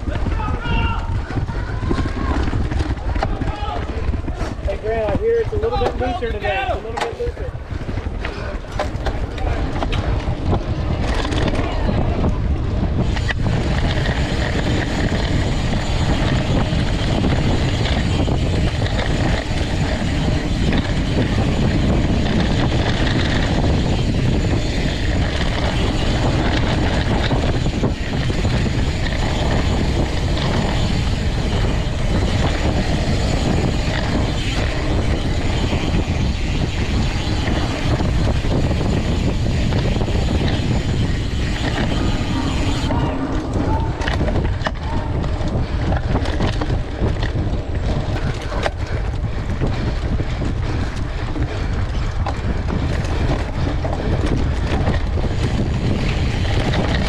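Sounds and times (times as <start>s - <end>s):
bike rolling over dirt trail: 0.0s - 57.0s
wind rush on microphone: 0.0s - 57.0s.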